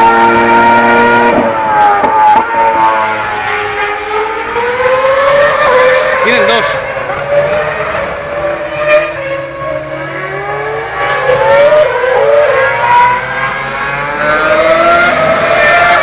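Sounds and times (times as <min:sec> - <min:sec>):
distant racing car engines: 0:00.0 - 0:16.0.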